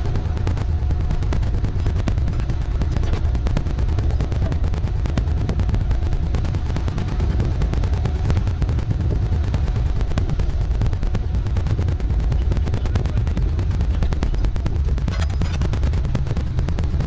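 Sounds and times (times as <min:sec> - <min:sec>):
boat engine rumble: 0:00.0 - 0:17.0
dense crackle: 0:00.0 - 0:17.0
wind buffeting microphone: 0:00.0 - 0:17.0.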